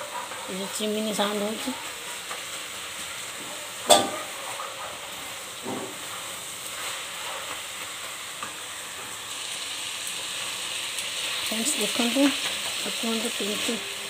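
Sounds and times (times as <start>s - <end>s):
cabbage sizzling in a frying pan: 0.0s - 14.0s.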